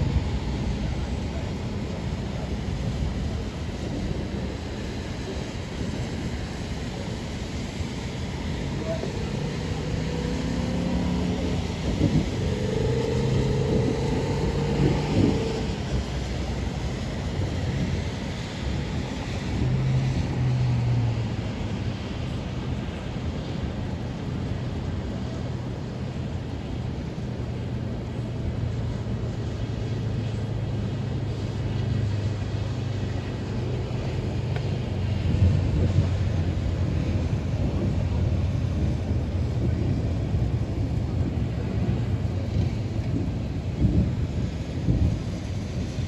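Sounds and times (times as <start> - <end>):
low thunder rumble: 0.0 - 46.0
storm wind: 0.0 - 46.0.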